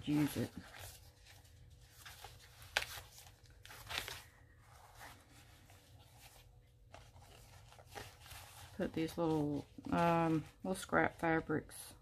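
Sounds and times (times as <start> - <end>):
paper pages rustling: 0.0 - 11.4.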